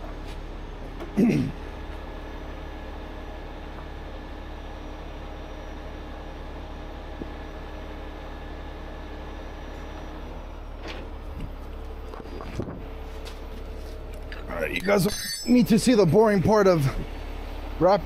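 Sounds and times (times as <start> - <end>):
tow truck winch humming: 0.0 - 18.0.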